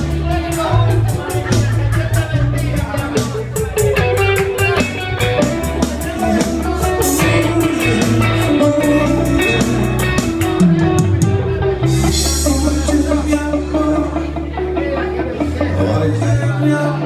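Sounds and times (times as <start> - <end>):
live band with electric guitar: 0.0 - 17.0.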